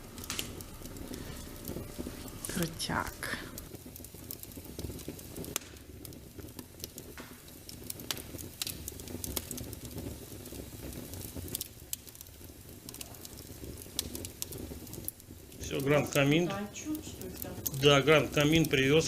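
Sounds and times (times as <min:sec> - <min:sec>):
fire sound effect crackling: 0:00.0 - 0:19.0
low background noise: 0:00.0 - 0:19.0.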